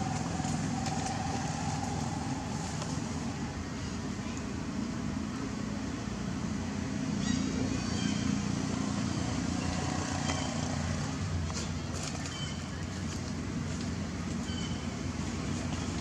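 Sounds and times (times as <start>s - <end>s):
motor traffic rumble: 0.0s - 16.0s.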